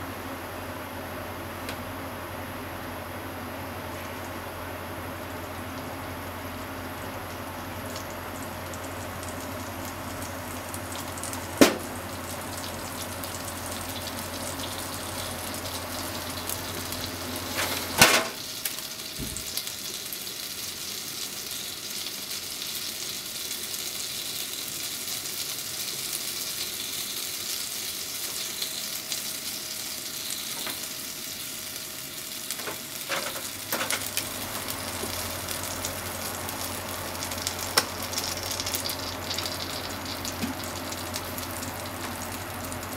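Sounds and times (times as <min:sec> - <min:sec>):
oil sizzling in a frying pan: 0:03.6 - 0:42.9.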